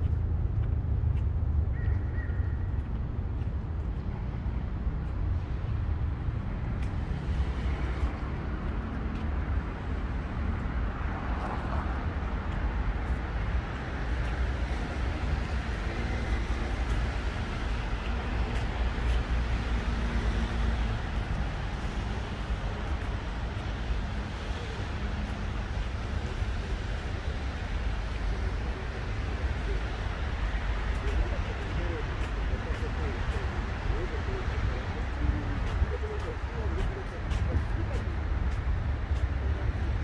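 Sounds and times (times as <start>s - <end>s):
rumble of passing cars: 0.0s - 40.0s.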